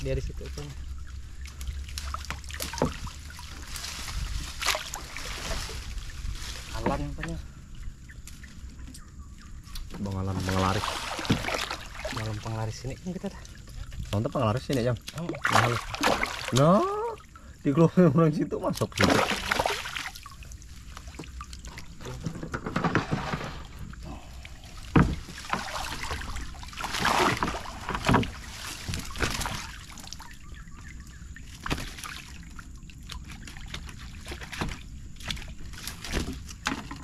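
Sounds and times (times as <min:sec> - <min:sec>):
fish thrashing and splashing: 0:00.5 - 0:08.8, 0:09.8 - 0:17.4, 0:18.8 - 0:37.0.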